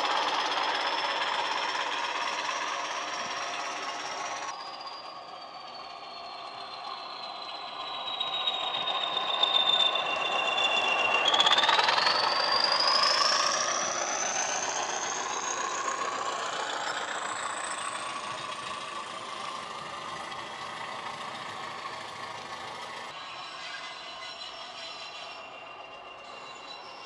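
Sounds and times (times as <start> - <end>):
diesel locomotive engine running: 0.0 - 27.0
turbocharger whistle: 0.0 - 27.0.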